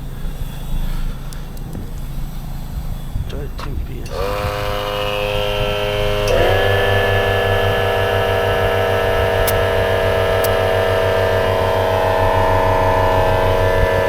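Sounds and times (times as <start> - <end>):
electric air compressor running: 0.0 - 14.0.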